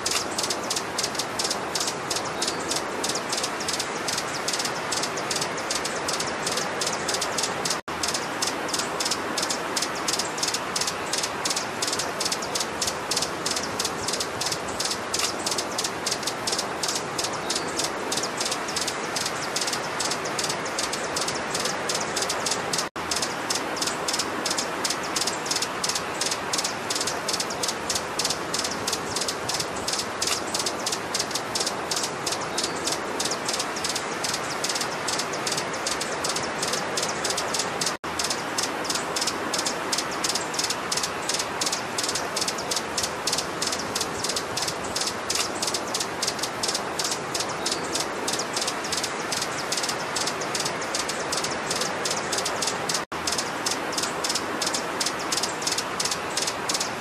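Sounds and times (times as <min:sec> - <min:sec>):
small bird ticking chips: 0:00.0 - 0:57.0
steady hiss: 0:00.0 - 0:57.0.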